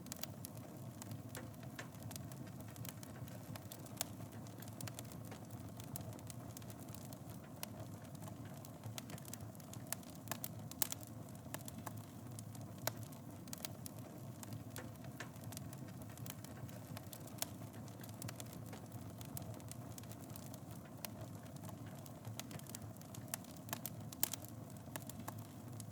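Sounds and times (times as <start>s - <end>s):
wood crackling and popping: 0.0s - 25.9s.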